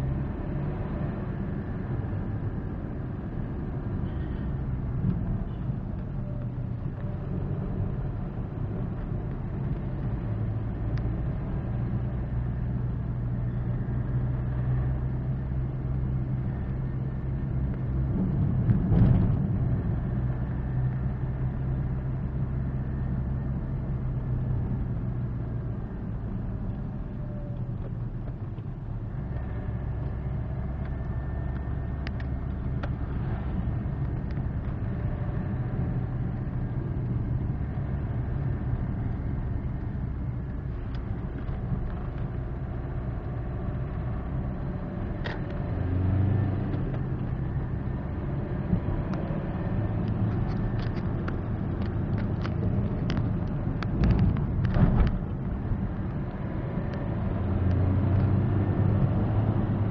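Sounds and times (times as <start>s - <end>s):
car engine and road hum: 0.0s - 59.9s.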